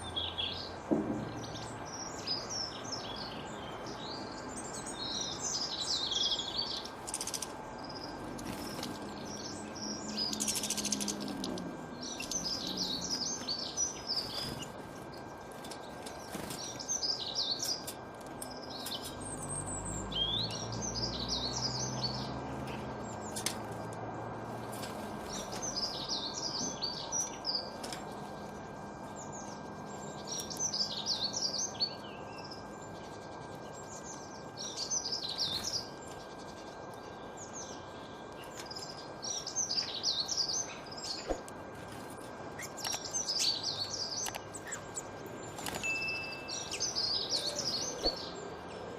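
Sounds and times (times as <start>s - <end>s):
small songbirds chirping: 0.0s - 48.9s.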